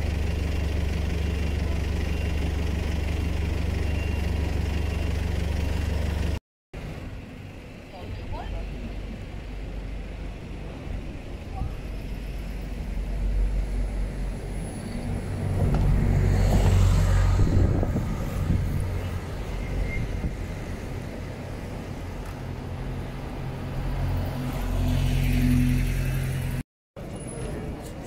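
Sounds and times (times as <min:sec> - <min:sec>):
cars rumbling past: 0:00.0 - 0:28.0.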